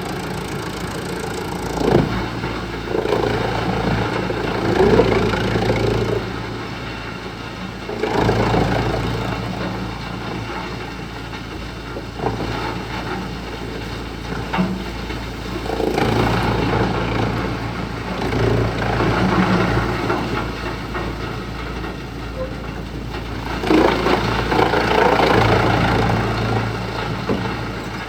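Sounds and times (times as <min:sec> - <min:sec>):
wood chipper running: 0:00.0 - 0:28.0.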